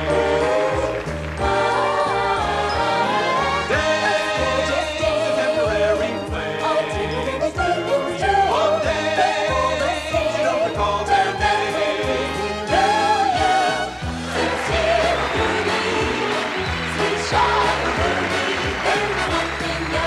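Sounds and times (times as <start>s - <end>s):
orchestral dance music: 0.0s - 20.0s.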